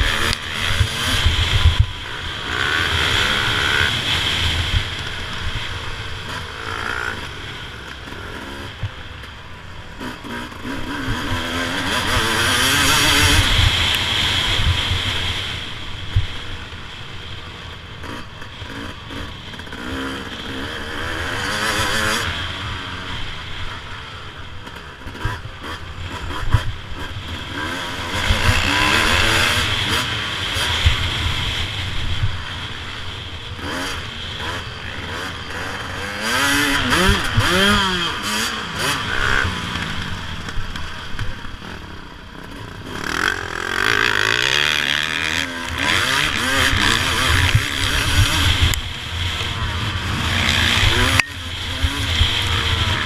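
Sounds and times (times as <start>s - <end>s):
motocross engine revving: 0.0s - 9.2s, 9.8s - 16.4s, 18.0s - 53.0s.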